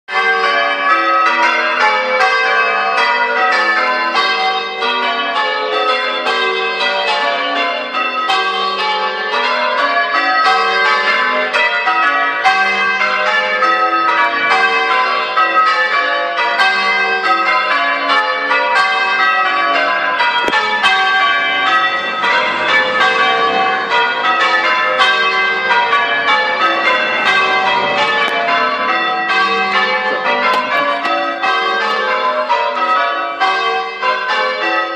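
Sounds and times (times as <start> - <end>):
church bells ringing: 0.1 - 34.9.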